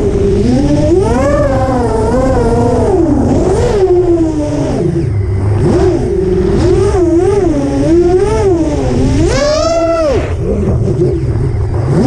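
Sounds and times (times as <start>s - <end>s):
drone motors whining: 0.0s - 12.0s
low rumble: 0.0s - 12.0s.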